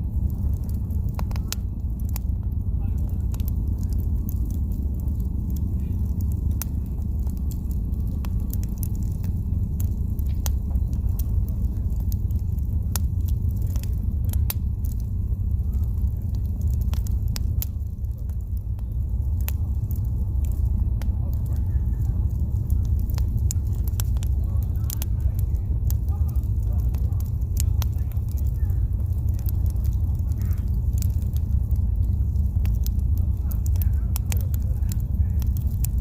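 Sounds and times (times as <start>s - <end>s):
campfire crackling and popping: 0.0s - 36.0s
steady low rumble: 0.0s - 36.0s.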